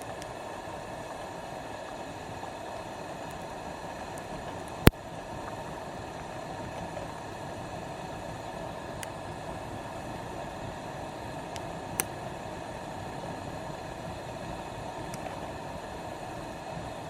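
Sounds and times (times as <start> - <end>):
campfire hissing: 0.0 - 17.0.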